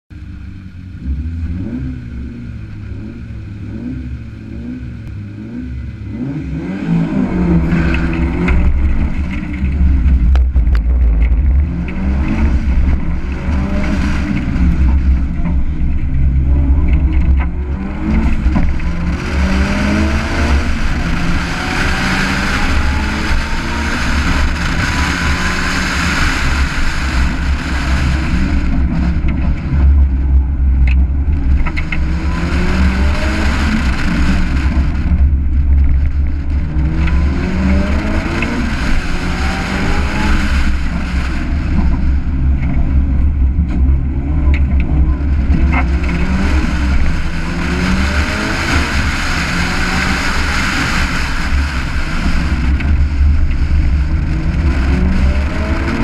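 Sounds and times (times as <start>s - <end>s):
rally car engine revving: 0.1s - 56.0s
wind and road rush: 0.1s - 56.0s.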